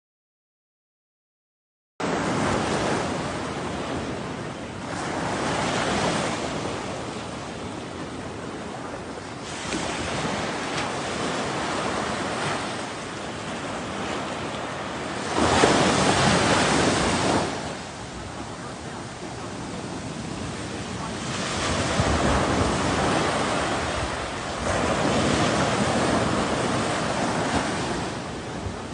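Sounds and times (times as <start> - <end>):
ocean waves washing ashore: 2.0 - 28.9.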